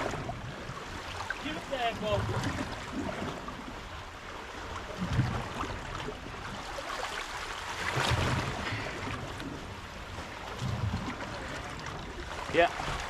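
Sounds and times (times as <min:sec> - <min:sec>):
seawater lapping at shore: 0:00.0 - 0:13.0.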